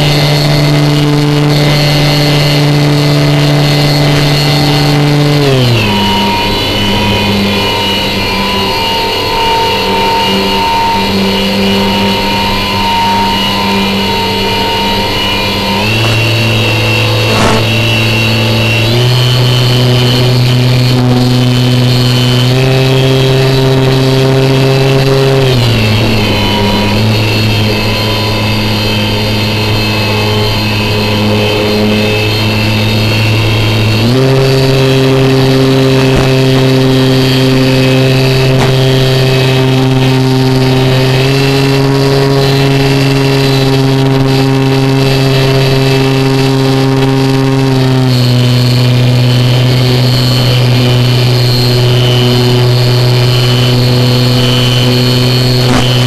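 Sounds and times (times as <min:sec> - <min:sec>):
electric motor and propeller: 0:00.0 - 0:56.0.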